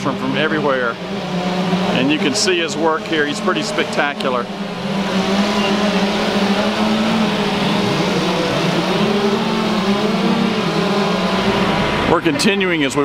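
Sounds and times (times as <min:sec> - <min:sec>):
chainsaws running at high revs: 0:00.0 - 0:12.2.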